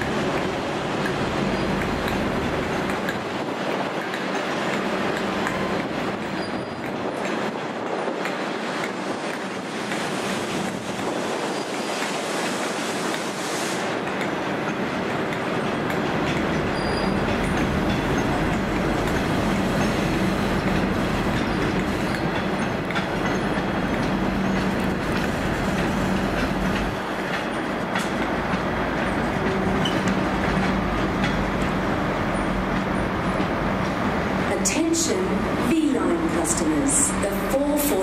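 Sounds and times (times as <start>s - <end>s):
wheels clicking over rail joints: 0.0s - 13.3s, 13.9s - 34.0s
train rumble: 0.0s - 38.0s.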